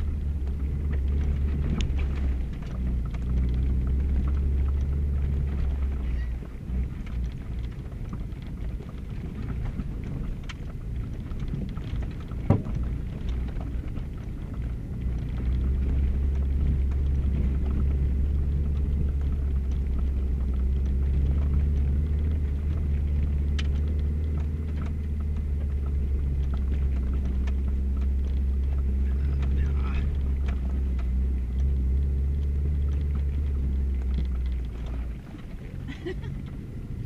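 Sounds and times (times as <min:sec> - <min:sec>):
car engine and tyres on dirt road: 0:00.0 - 0:37.0
suspension knocks and rattles: 0:00.0 - 0:37.0.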